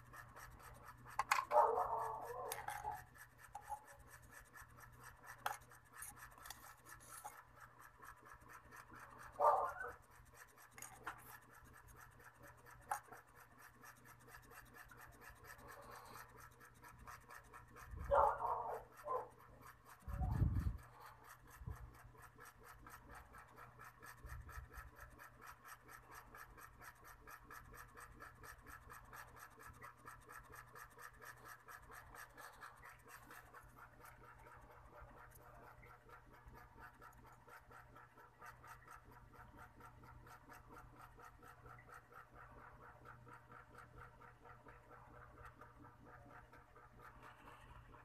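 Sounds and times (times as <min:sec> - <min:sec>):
fast repeating rasp: 0:00.0 - 0:48.0.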